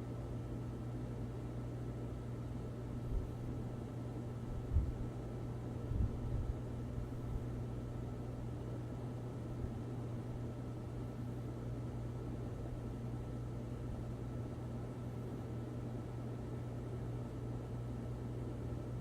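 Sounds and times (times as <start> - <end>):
ceiling fan motor hum: 0.0 - 19.0.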